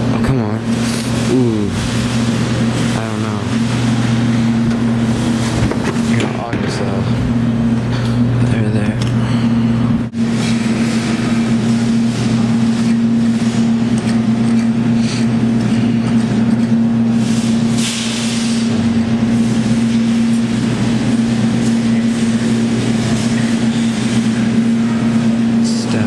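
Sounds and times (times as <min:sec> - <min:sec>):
arcade background noise: 0:00.0 - 0:26.0
claw machine electrical hum: 0:00.0 - 0:26.0.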